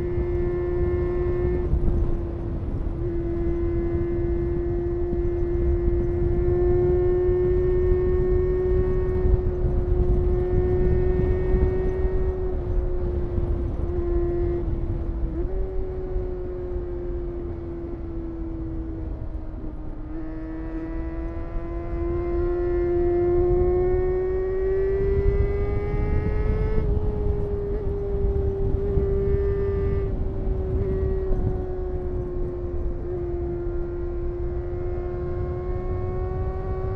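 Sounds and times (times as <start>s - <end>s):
motorcycle engine at high revs: 0.0s - 36.9s
wind rushing over microphone: 0.0s - 36.9s.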